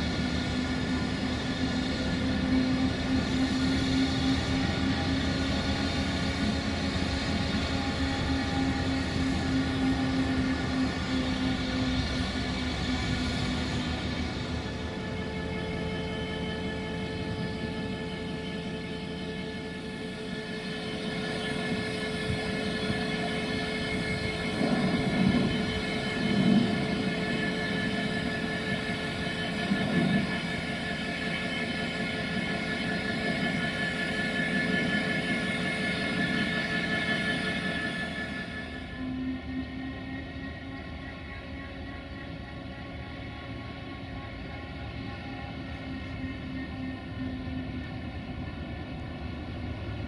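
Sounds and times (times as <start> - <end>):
train humming: 0.0 - 50.0.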